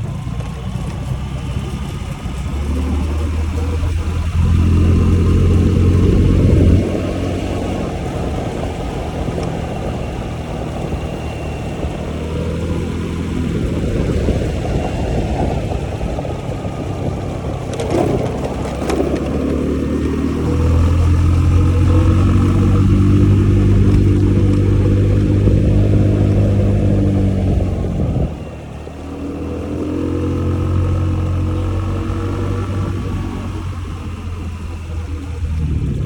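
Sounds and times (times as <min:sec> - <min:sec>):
scooter engine running: 0:00.0 - 0:36.0
wind noise on microphone: 0:00.0 - 0:36.0.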